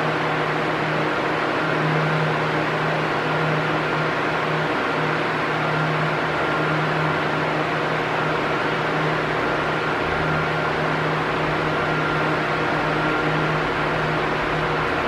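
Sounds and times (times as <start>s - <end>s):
electric fan rushing air: 0.0s - 15.0s.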